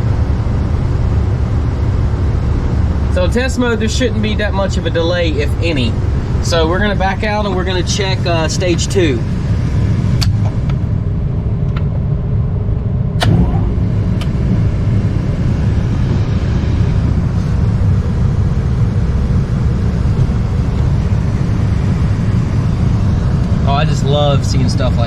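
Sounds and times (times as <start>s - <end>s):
low rumble of rooftop unit: 0.0s - 25.0s.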